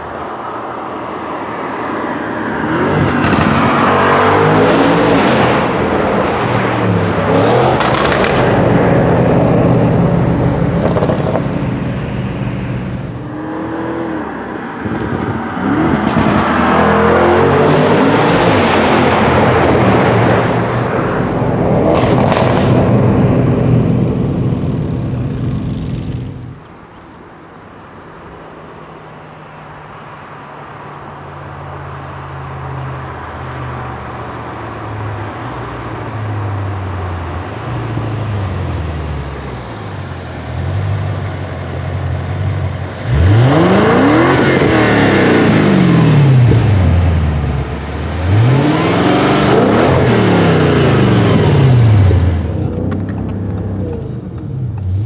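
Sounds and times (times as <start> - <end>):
car engine rumbling and revving: 0.0 - 55.0.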